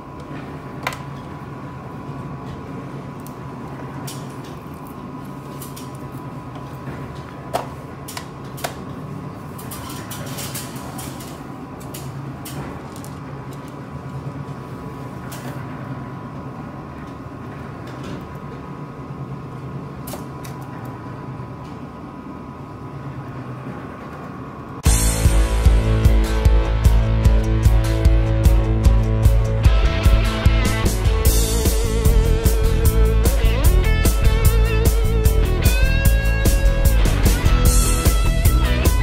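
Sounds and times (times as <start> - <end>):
room hum with faint whine: 0.0 - 39.0.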